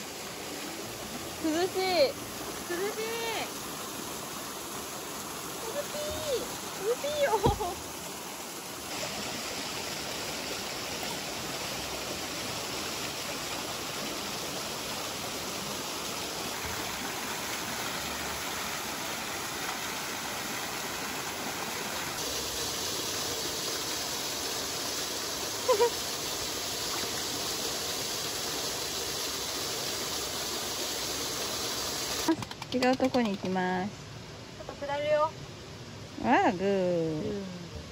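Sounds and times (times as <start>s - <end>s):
waterfall splashing onto rocks: 0.0s - 33.7s.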